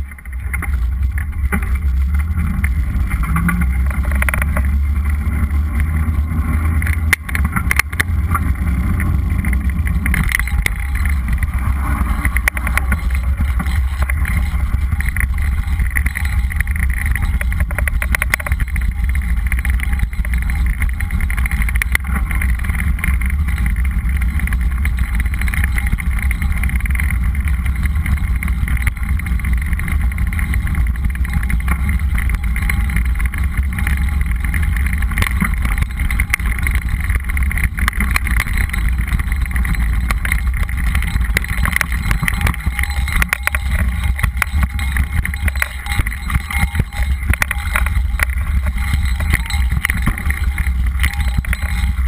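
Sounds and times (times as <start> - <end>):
bike clicks and rattles: 0.0 - 52.0
wind and tyres rumbling: 0.0 - 52.0.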